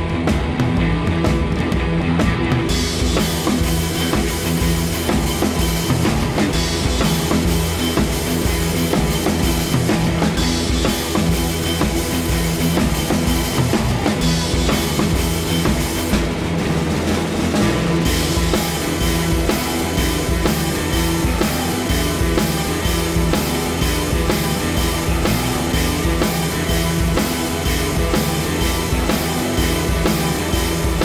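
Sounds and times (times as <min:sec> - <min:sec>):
rock music with drums and bass: 0:00.0 - 0:31.0.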